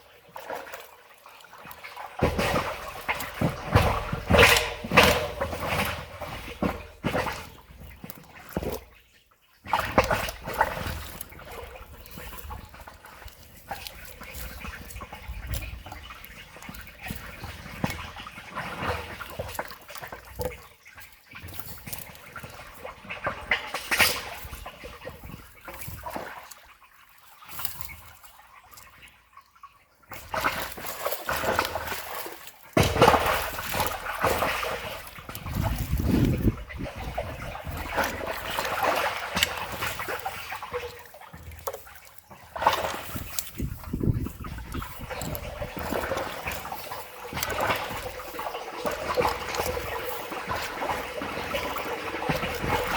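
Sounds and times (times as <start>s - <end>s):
water splashing: 0.0s - 52.9s
sticks and rocks knocking: 2.2s - 8.9s, 9.7s - 26.6s, 30.2s - 52.9s.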